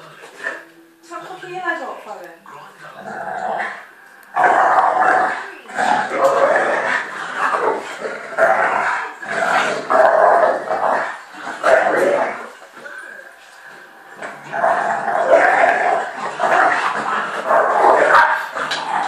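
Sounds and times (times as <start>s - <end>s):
dogs growling during play: 2.5s - 19.0s.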